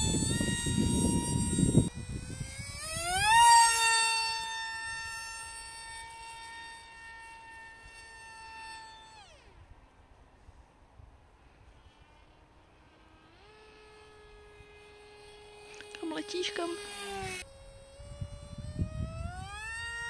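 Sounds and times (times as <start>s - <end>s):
electric motor and propeller whining: 0.0s - 20.0s.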